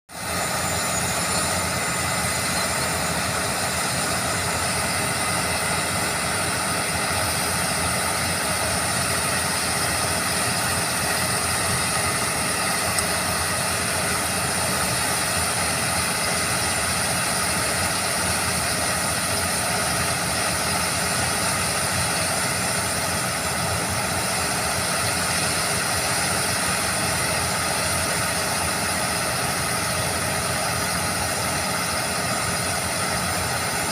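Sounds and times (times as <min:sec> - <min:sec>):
diesel drill rig running: 0:00.1 - 0:33.9.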